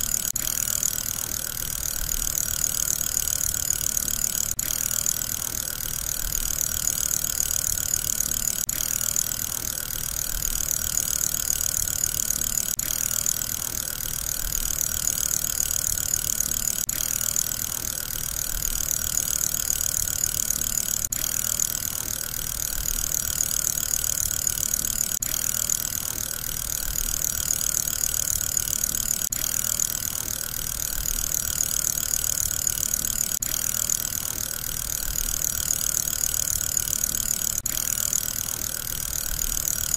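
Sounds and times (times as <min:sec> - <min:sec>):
fidget spinner whirring: 0:00.0 - 0:39.9.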